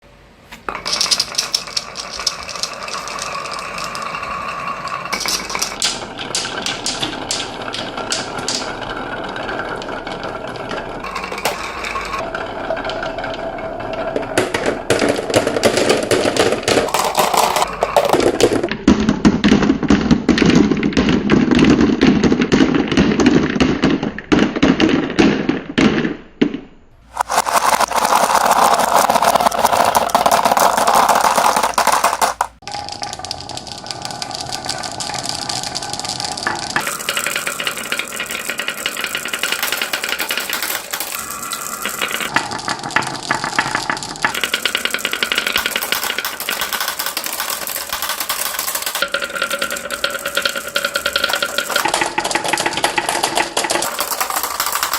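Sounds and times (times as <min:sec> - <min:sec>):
marbles rolling down wooden run: 0:00.7 - 0:19.0, 0:27.0 - 0:54.9.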